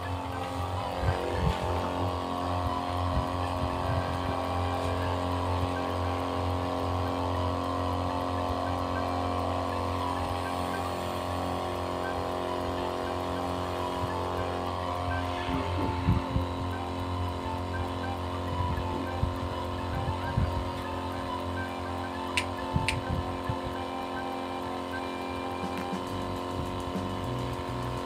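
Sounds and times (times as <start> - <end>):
sprayer pump running: 0.0 - 28.0.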